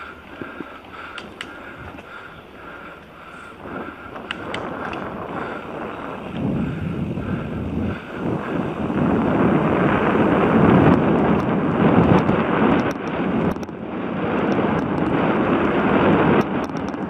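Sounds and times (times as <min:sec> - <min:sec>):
bike tyres rolling on dirt: 0:00.0 - 0:17.0
wind buffeting microphone: 0:00.0 - 0:17.0.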